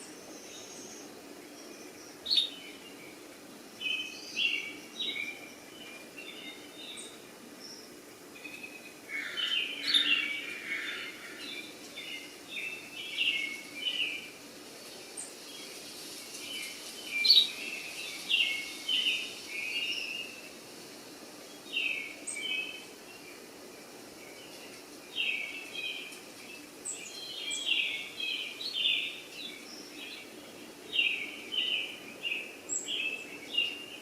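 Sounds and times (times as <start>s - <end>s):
birds chirping: 0.0s - 20.6s, 21.4s - 34.0s
steady background hiss: 0.0s - 34.0s.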